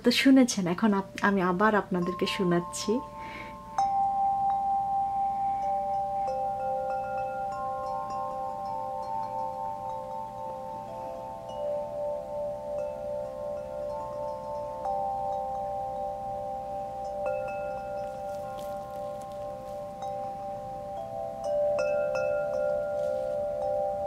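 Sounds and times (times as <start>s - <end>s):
wind chime ringing: 1.8s - 24.0s.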